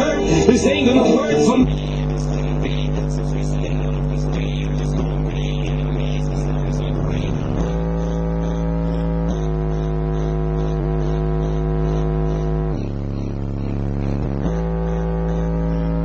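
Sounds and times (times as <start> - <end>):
subwoofer deep bass notes: 0.0 - 16.0.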